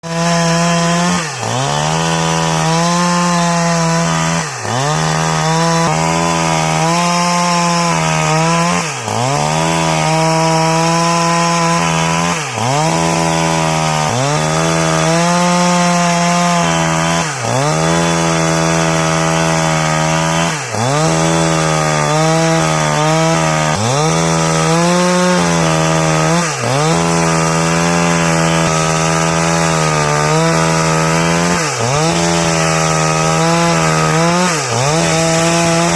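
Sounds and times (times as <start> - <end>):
chainsaw cutting log: 0.0 - 35.9.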